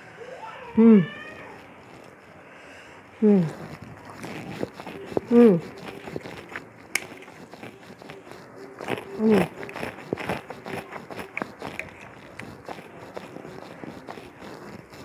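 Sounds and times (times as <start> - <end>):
person humming: 0.8 - 2.0, 3.2 - 15.0
chewing and crunching: 1.4 - 2.4, 3.2 - 15.0.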